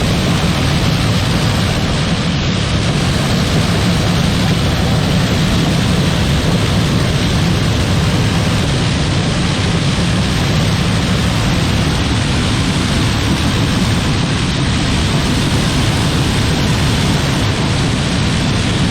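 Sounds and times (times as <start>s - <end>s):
engine drone: 0.0s - 18.9s
rushing noise: 0.0s - 18.9s.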